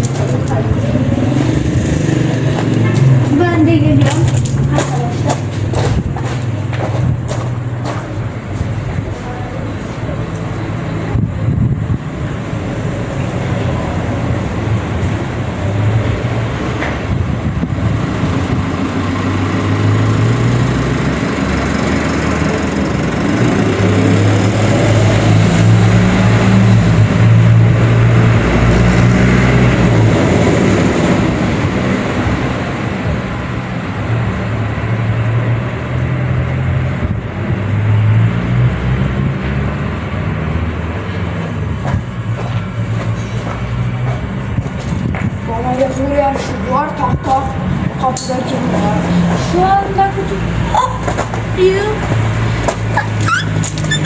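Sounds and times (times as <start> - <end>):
road and wind noise: 0.0 - 54.0
vehicle engine hum: 0.0 - 54.0.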